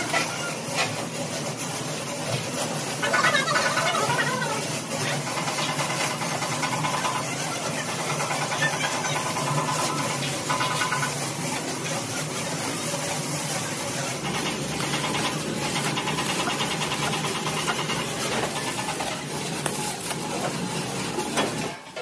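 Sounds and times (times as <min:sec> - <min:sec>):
welding arc crackling and sizzling: 0:00.0 - 0:22.0.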